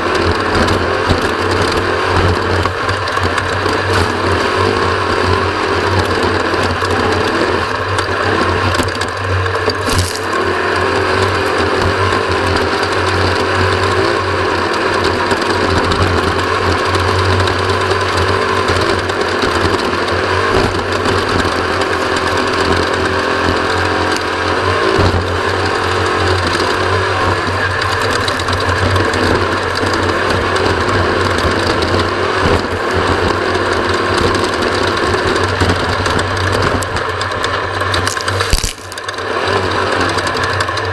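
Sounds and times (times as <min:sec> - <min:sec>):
vehicle engine drone: 0:00.0 - 0:40.9
chassis rattling and knocking: 0:00.1 - 0:40.9.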